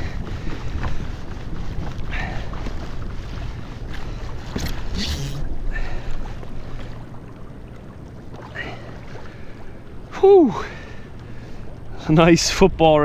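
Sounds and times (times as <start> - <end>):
water washing against hull: 0.0 - 13.0
wind buffeting microphone: 0.0 - 13.0.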